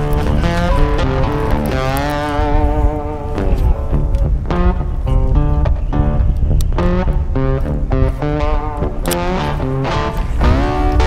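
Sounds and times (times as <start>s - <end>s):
plucked guitar tune with bass: 0.0s - 11.0s.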